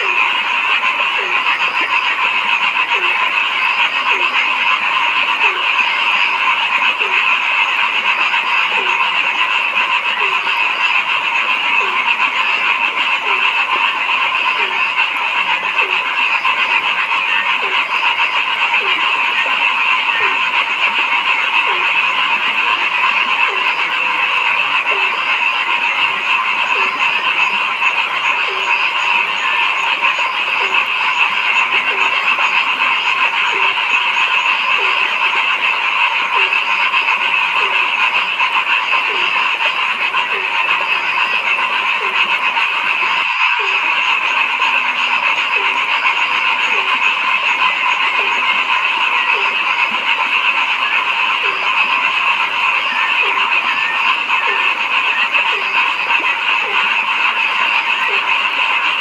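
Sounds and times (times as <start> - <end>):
chorus of frogs trilling: 0.0 - 59.0
frog low upward croak: 0.0 - 59.0.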